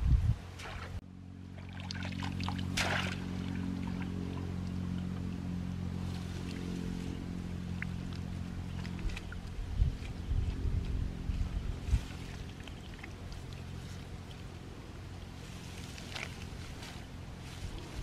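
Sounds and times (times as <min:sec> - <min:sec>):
steady low hum: 0:00.0 - 0:18.0
water splashing and trickling: 0:00.5 - 0:05.1, 0:06.0 - 0:18.0.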